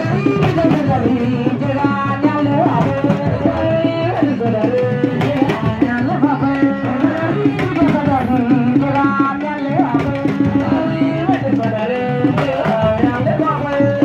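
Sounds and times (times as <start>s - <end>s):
hand drums beating: 0.0s - 14.0s
person singing: 0.0s - 14.0s.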